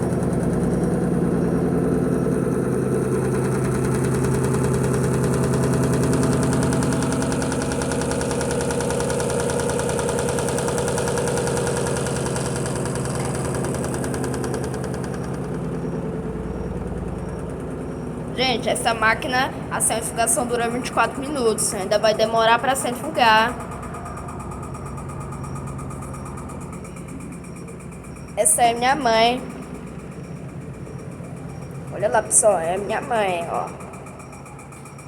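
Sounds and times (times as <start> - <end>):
washing machine spinning: 0.0 - 35.0.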